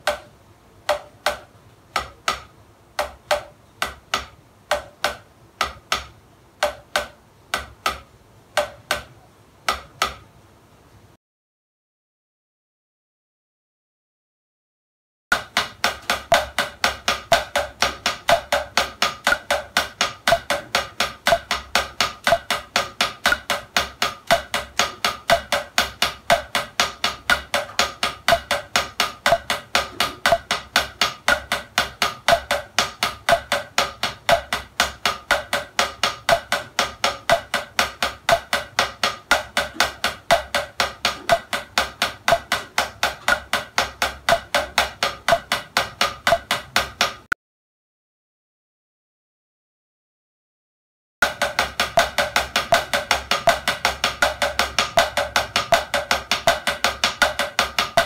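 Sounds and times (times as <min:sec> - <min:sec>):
drumsticks tapping practice pad: 0:00.0 - 0:10.5, 0:15.3 - 0:47.4, 0:51.2 - 0:58.0.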